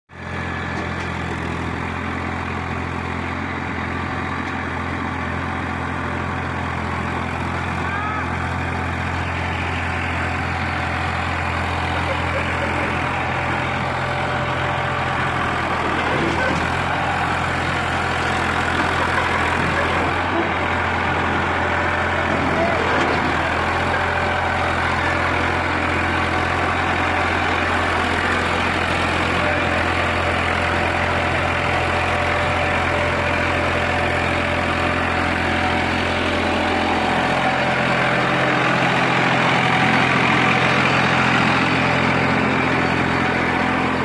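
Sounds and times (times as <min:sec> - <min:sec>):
tractor diesel engine running: 0:00.1 - 0:44.0.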